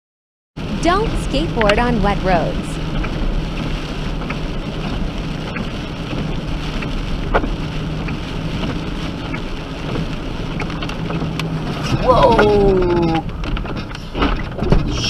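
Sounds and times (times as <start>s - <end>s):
car engine hum: 0.6s - 15.0s
road noise: 0.6s - 15.0s.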